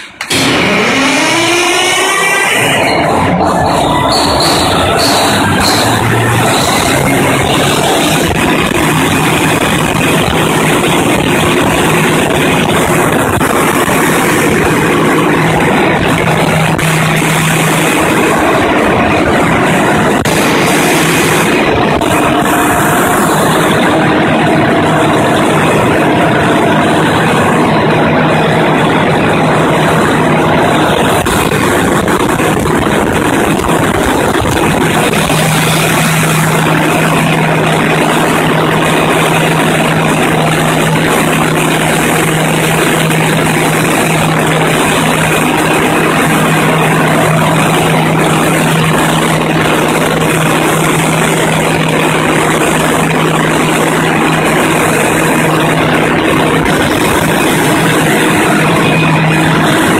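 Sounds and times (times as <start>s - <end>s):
diesel engine running: 0.0s - 59.9s
steady low hum: 0.0s - 59.9s.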